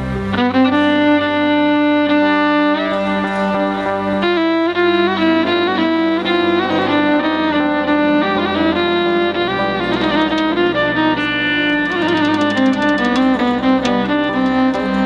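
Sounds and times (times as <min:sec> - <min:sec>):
folk ensemble melody: 0:00.0 - 0:15.0
steady low drone: 0:00.0 - 0:15.0.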